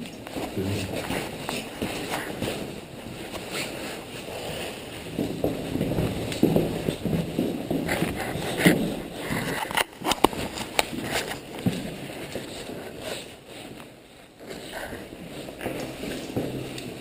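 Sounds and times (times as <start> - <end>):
footsteps on debris: 0.0 - 13.8
rustling: 0.0 - 17.0.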